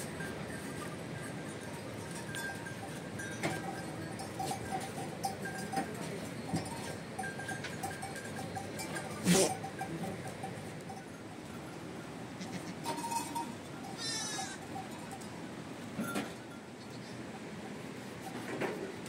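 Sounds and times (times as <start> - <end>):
livestock bells clinking: 0.0 - 19.0.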